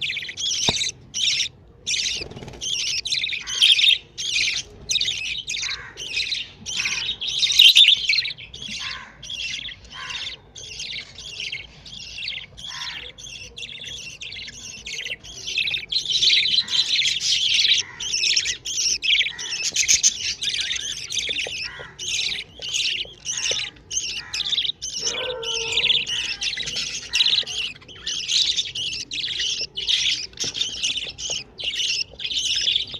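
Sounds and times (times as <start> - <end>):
bird chicks begging calls: 0.0 - 32.9.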